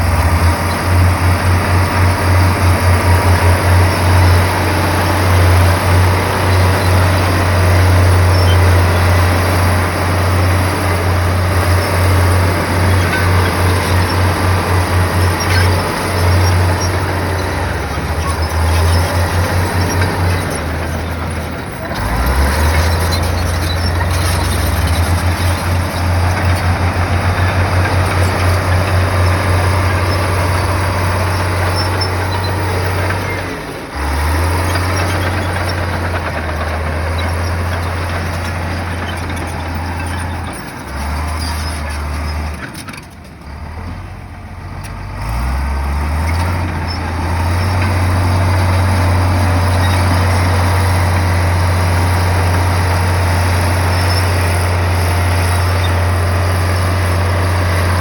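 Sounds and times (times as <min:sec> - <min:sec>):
bulldozer diesel engine working: 0:00.0 - 0:58.0
rough mechanical noise: 0:00.0 - 0:58.0.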